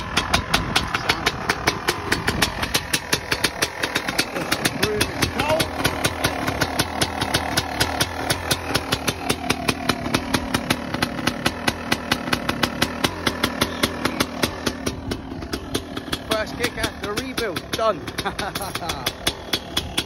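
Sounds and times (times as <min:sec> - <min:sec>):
two-stroke engine idling: 0:00.0 - 0:20.0.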